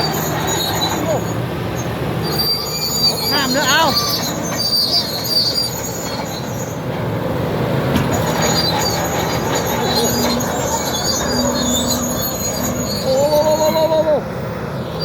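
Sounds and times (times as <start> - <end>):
bulldozer diesel engine under load: 0.0 - 15.0
steel tracks squealing and clanking: 0.0 - 15.0.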